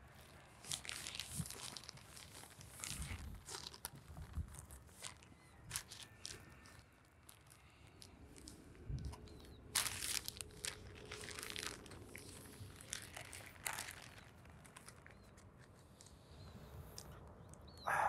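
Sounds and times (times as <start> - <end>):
soft rustling and crinkling: 0.0 - 17.9.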